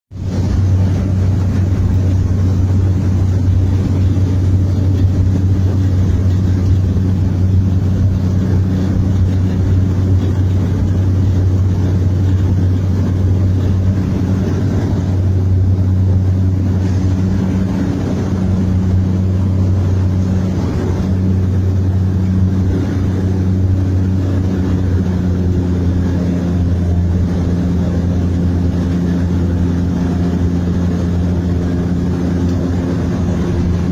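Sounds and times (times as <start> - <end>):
propeller engine droning: 0.0 - 33.9.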